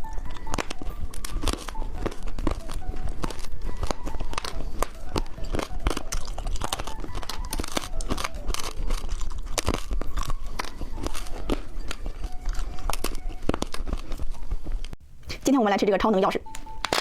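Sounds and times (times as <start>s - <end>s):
crunching and chewing candy: 0.0s - 15.0s, 16.7s - 17.0s.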